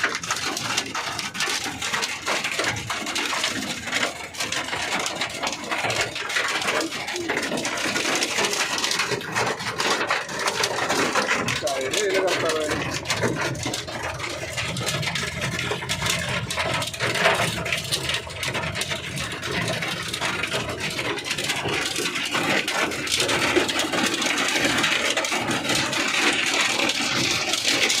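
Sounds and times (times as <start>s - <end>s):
vehicle engine running: 0.0s - 28.0s
dense rattling: 0.3s - 28.0s.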